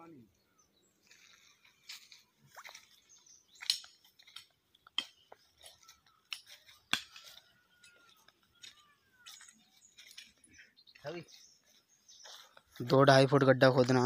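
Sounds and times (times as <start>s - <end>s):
footsteps on dry soil and leaves: 0.8s - 14.0s.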